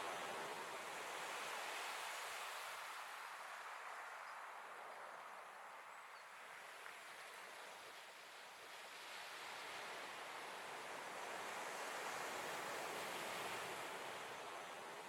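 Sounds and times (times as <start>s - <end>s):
waves washing onto sandy beach: 0.0s - 5.7s, 6.5s - 15.0s.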